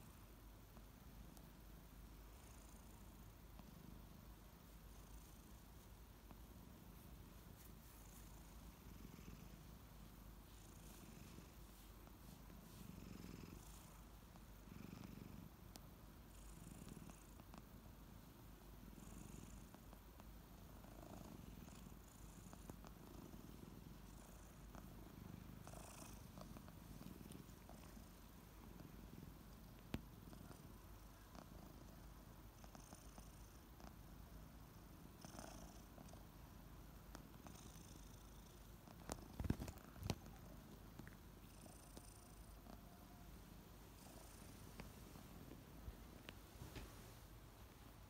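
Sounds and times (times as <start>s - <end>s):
kitten purring: 0.8s - 48.0s.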